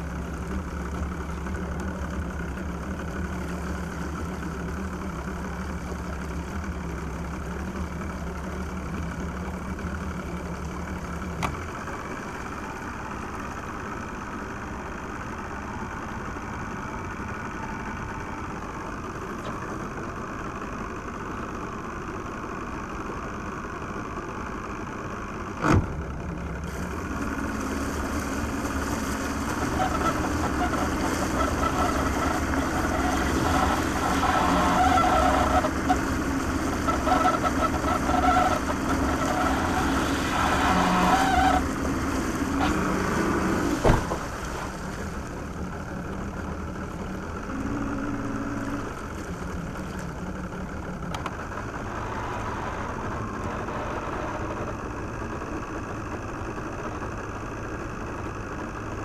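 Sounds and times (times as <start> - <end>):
engine running unevenly: 0.0 - 59.0.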